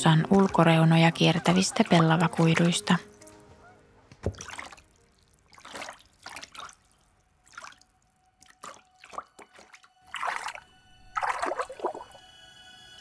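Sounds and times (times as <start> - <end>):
water splashing and dripping: 1.4 - 12.2.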